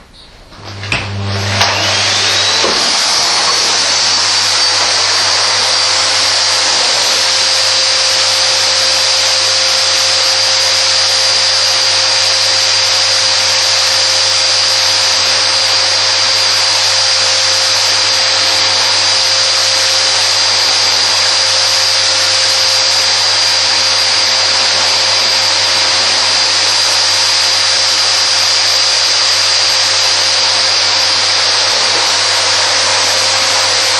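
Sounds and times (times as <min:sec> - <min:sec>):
vacuum cleaner whining: 0:00.0 - 0:33.9.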